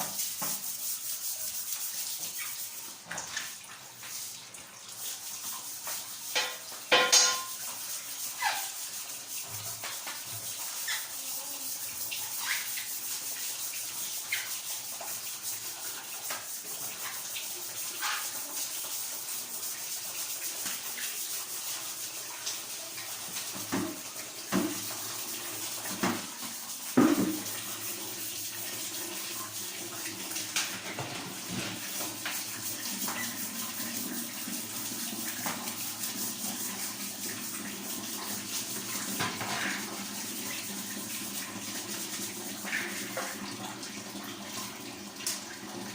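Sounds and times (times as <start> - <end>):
water running: 0.0 - 45.9.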